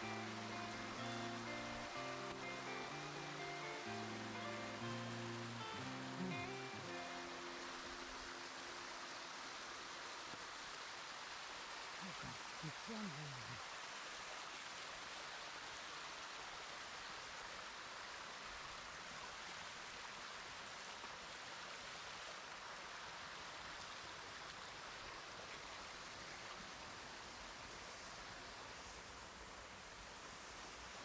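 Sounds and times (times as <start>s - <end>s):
stream water running over rocks: 0.0s - 31.0s.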